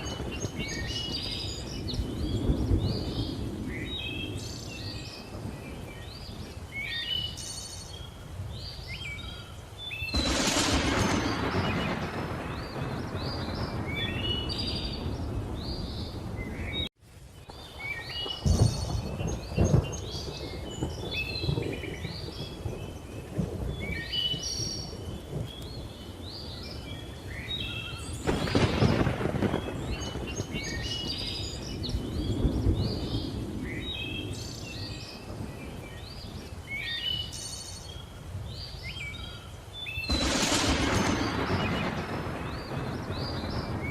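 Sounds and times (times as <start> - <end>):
sharp thunder cracks: 0.0 - 6.5, 10.0 - 16.9, 17.5 - 26.4, 27.4 - 36.5, 40.0 - 43.9
thunder rumbling: 0.0 - 7.4, 10.0 - 37.4, 40.0 - 43.9
birds chirping: 0.0 - 16.9, 17.5 - 43.9.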